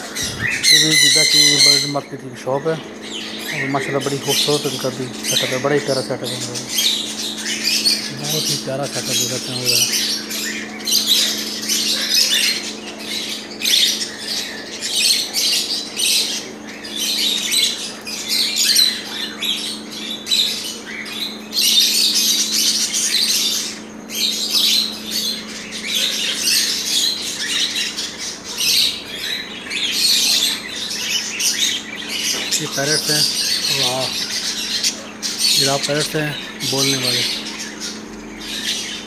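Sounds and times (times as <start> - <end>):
caged birds chirping and squawking: 0.0 - 39.0
steady low hum: 0.0 - 39.0.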